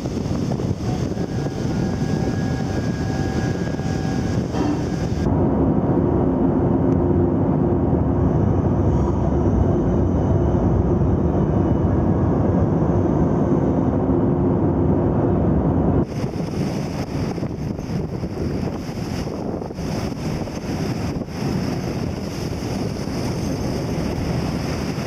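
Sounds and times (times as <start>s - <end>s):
machinery hum: 0.0s - 25.0s
sea water rushing along hull: 0.0s - 25.0s
wind on microphone: 0.0s - 25.0s.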